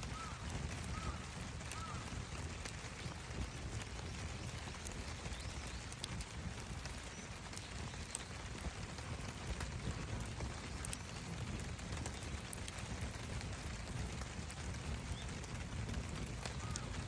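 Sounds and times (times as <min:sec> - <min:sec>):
campfire crackles and pops: 0:00.0 - 0:17.0
fire low rumble and hiss: 0:00.0 - 0:17.0.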